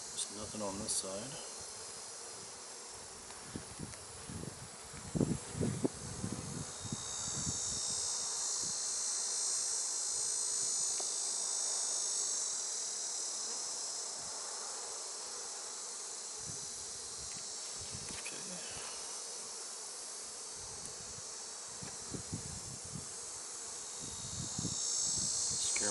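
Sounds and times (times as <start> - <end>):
high-pitched insect drone: 0.0 - 25.9.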